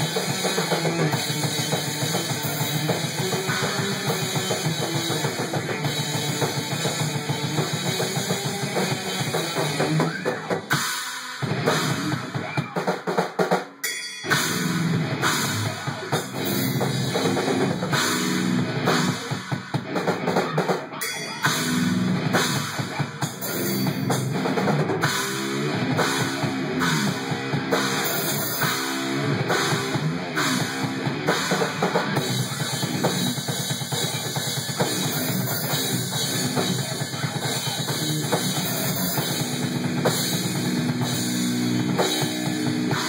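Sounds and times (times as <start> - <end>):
electric guitar: 0.0 - 13.1, 14.3 - 43.0
drum kit: 0.0 - 43.0
rock band playing live: 0.0 - 43.0.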